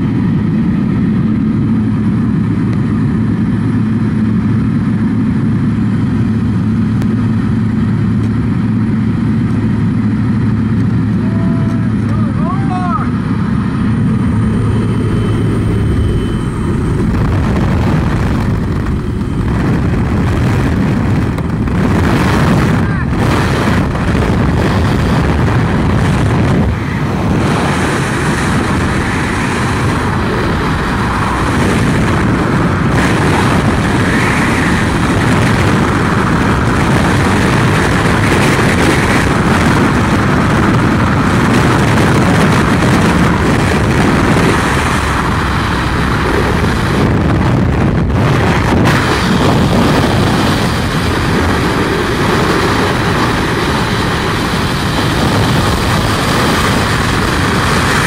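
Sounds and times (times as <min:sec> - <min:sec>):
freefall wind rush: 0:00.0 - 0:58.0
plane engine hum: 0:00.0 - 0:58.0.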